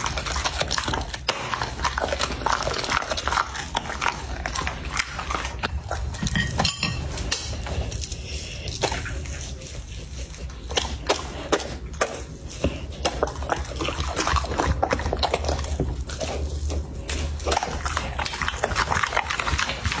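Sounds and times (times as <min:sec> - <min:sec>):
dog chewing bone: 0:00.0 - 0:20.0.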